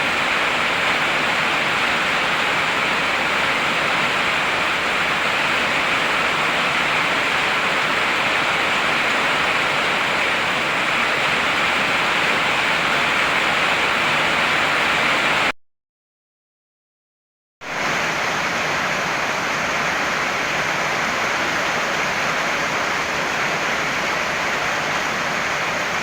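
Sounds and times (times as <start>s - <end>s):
heavy rain falling: 0.0s - 15.5s, 17.6s - 26.0s.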